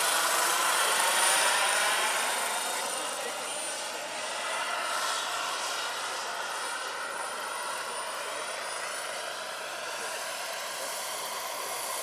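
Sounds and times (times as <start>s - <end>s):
gas turbine high whine: 0.0s - 12.0s
helicopter rotor rush: 0.0s - 12.0s.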